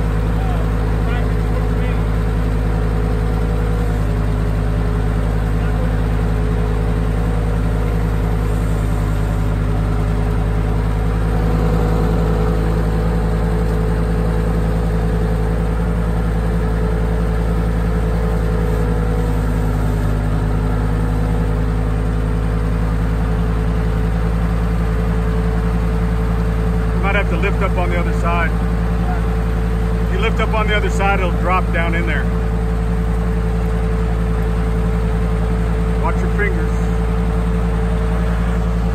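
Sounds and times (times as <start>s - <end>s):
forklift engine idling: 0.0s - 38.9s.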